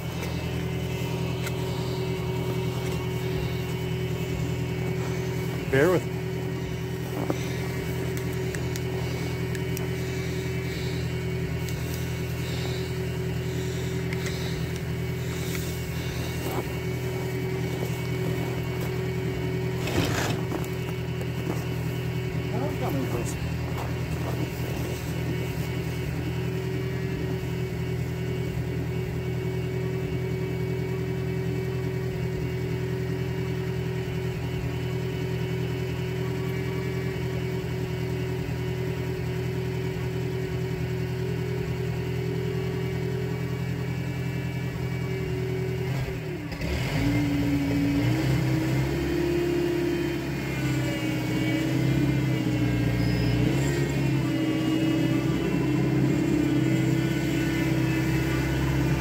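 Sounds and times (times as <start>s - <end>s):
skid steer engine running: 0.0s - 59.0s.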